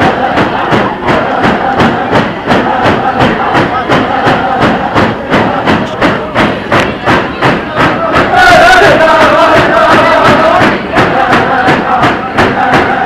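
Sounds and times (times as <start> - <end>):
hand drums beating: 0.0 - 13.0
people chanting: 0.0 - 13.0.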